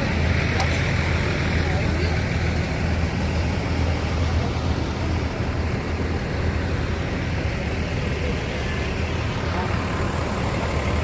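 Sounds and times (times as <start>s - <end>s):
bus engine humming: 0.0s - 11.0s
road noise: 0.0s - 11.0s.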